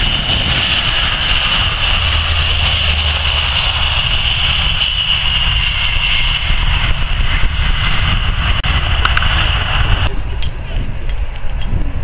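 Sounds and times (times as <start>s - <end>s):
jet engines at take-off: 0.0s - 12.0s.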